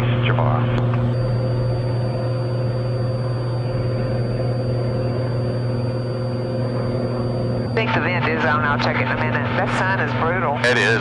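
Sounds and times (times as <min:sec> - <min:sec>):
airplane engine droning in cabin: 0:00.0 - 0:11.0
faint high-pitched whine: 0:01.1 - 0:10.9.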